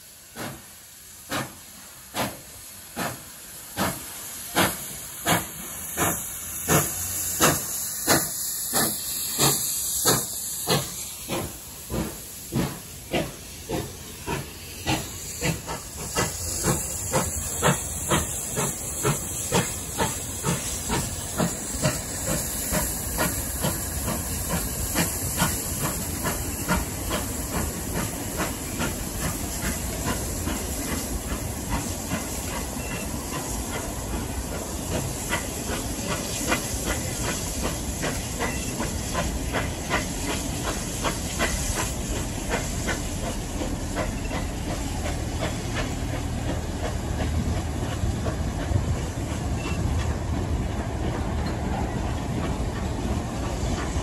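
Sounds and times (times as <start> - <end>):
steam hissing: 0.0 - 54.0
steam locomotive exhaust chuffing: 0.0 - 54.0.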